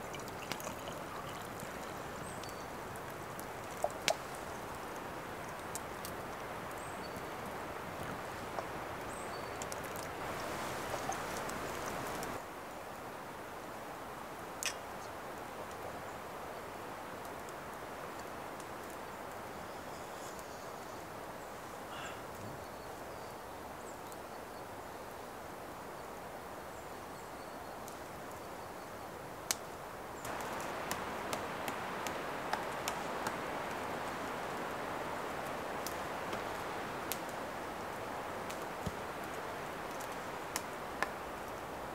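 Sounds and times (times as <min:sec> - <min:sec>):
rushing stormy forest ambience: 0:00.0 - 0:41.9.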